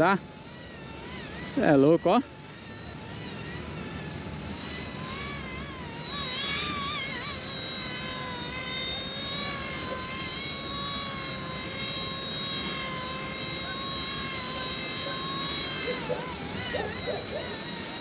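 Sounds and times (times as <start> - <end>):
toy helicopter motor whining: 0.0 - 18.0.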